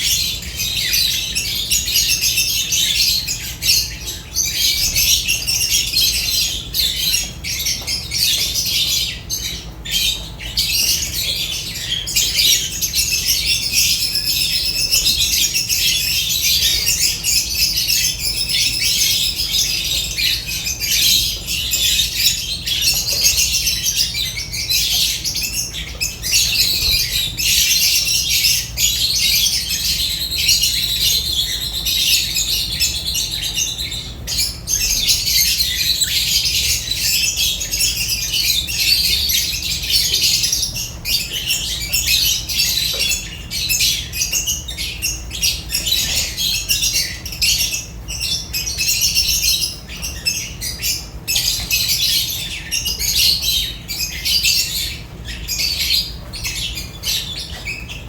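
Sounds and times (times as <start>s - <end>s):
lovebirds chirping and squawking: 0.0s - 58.0s.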